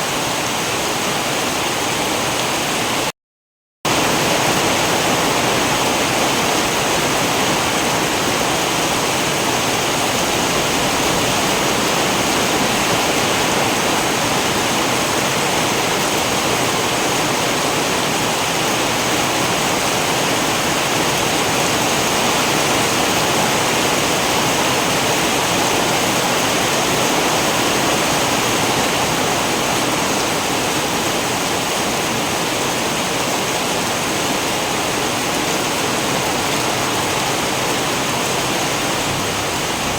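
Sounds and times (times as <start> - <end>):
heavy rain falling: 0.0 - 3.1, 3.9 - 39.9.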